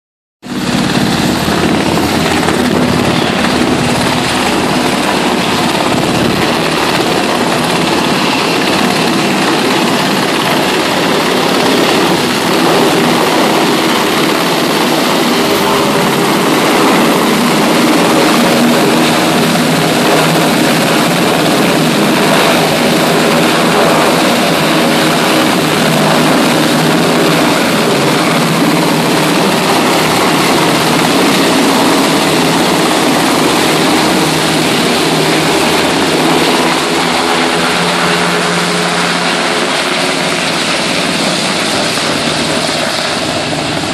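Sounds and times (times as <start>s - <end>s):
helicopter hovering: 0.4s - 43.9s.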